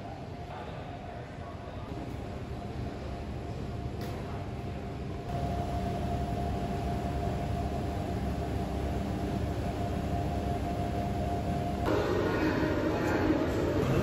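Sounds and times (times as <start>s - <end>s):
thin steady whine: 2.2s - 14.0s.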